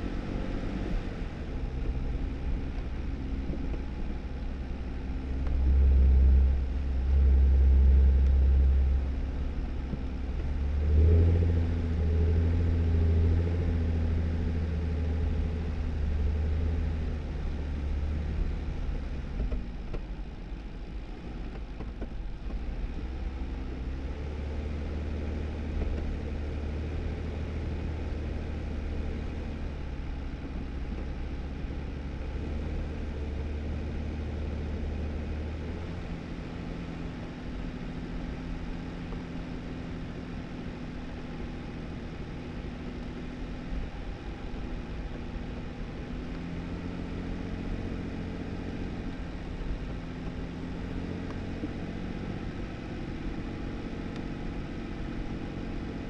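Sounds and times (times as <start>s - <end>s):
car engine running: 0.0s - 56.0s
tyres on snowy dirt road: 0.0s - 56.0s.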